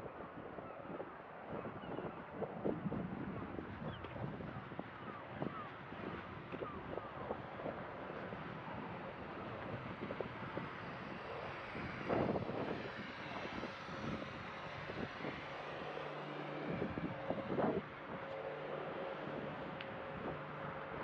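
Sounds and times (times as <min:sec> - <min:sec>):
wind buffeting microphone: 0:00.0 - 0:21.0
steady low drone: 0:02.8 - 0:21.0.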